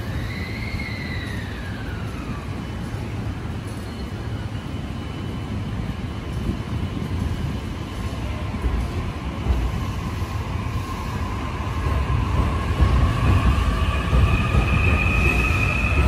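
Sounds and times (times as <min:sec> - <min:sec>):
electric train pulling away: 0:00.0 - 0:16.0.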